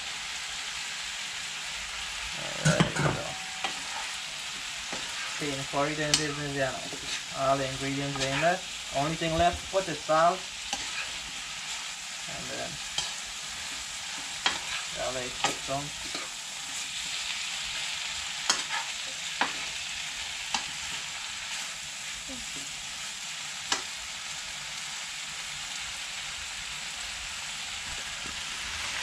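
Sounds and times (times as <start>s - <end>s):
curry sizzling in a pan: 0.0s - 29.0s.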